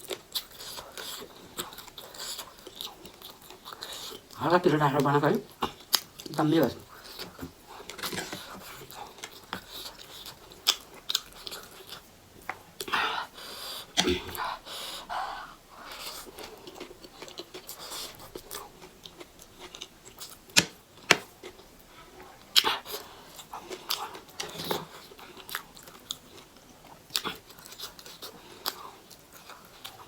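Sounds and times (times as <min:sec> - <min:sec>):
person chewing food: 0:00.0 - 0:04.4, 0:05.5 - 0:30.0.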